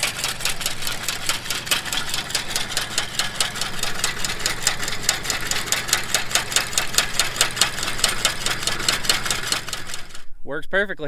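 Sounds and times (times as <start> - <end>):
tractor engine hum: 0.0 - 10.3.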